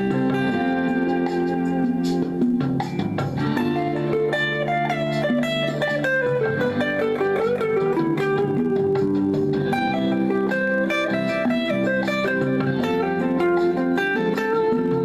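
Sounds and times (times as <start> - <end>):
backing track chords: 0.0 - 15.0
guitar melody: 0.0 - 15.0.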